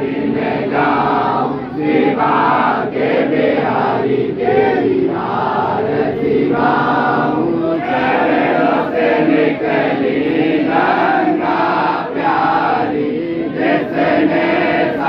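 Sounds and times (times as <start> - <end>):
crowd singing a chant in unison: 0.0 - 15.0.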